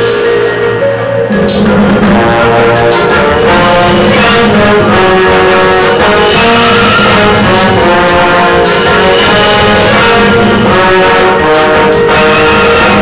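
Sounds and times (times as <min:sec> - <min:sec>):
marimba struck with mallets: 0:00.0 - 0:13.0
brass holding chords: 0:00.7 - 0:13.0.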